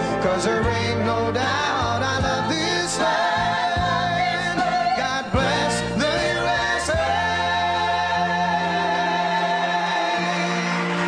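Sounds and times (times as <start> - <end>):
country band with bass line: 0.0 - 11.0
man singing: 0.0 - 11.0.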